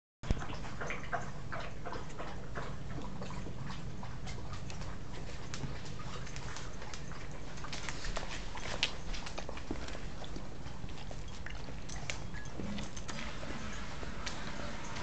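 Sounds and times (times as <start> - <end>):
steady low hum: 0.3 - 15.0
dog chewing plush toy: 1.5 - 15.0.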